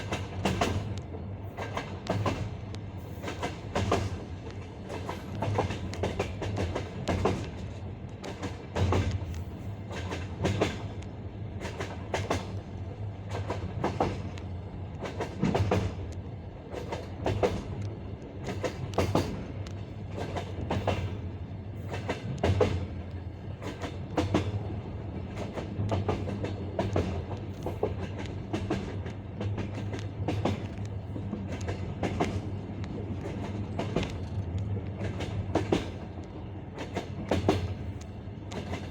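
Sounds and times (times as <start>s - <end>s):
train wheels clattering over rail joints: 0.0s - 1.0s, 1.6s - 11.0s, 11.6s - 12.6s, 13.2s - 14.4s, 15.0s - 16.1s, 16.7s - 17.8s, 18.4s - 21.2s, 21.8s - 23.0s, 23.6s - 24.6s, 25.2s - 38.9s
low rumble of moving train: 0.0s - 38.9s.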